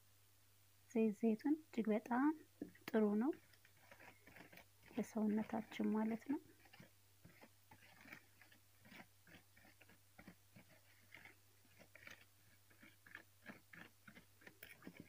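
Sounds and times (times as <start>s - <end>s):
metal spoon stirring thick paste: 2.6s - 15.0s.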